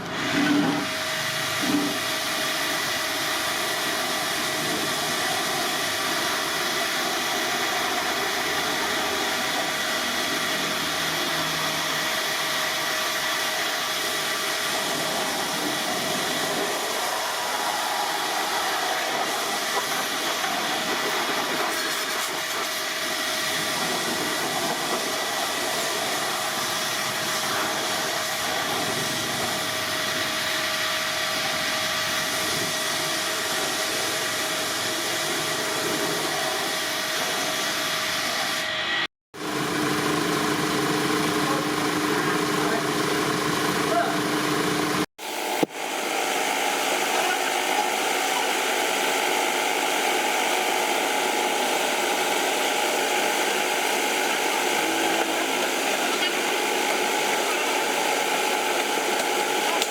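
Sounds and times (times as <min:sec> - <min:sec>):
machine hiss with high whine: 0:00.5 - 0:39.1, 0:45.2 - 0:59.9.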